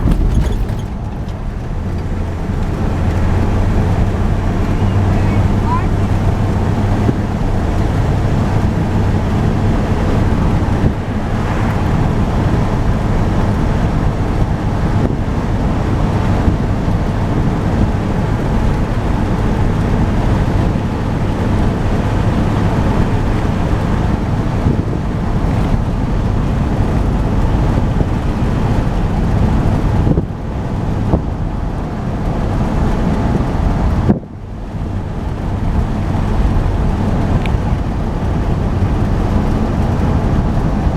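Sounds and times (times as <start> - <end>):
road and wind noise: 0.0 - 40.9
truck engine running: 0.0 - 40.9.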